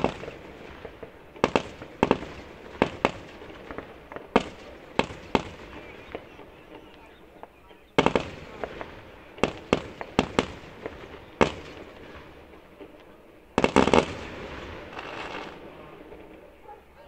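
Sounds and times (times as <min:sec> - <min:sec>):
fireworks bursting with bangs: 0:00.0 - 0:17.0
fireworks crackling: 0:00.0 - 0:17.0.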